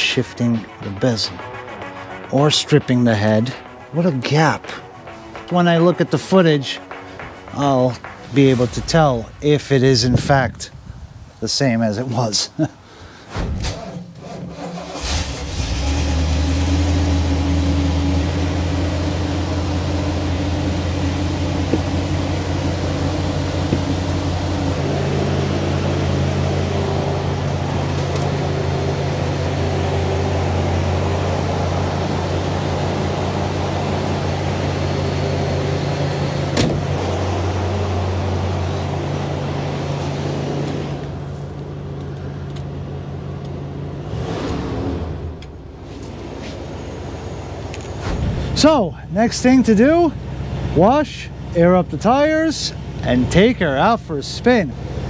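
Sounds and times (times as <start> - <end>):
car engine idling: 0.0 - 8.5, 14.2 - 44.0, 45.2 - 55.0.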